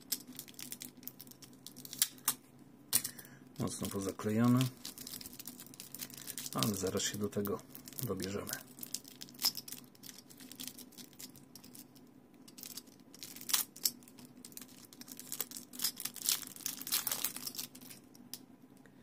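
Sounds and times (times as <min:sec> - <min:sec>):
plastic wrapping crinkling and tearing: 0:00.0 - 0:02.4, 0:03.0 - 0:11.9, 0:12.6 - 0:18.1.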